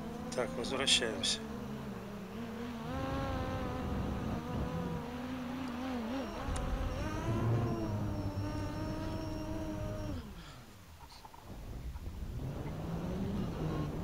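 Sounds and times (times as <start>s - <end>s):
quadcopter motors whining: 0.0s - 10.8s, 12.2s - 14.0s.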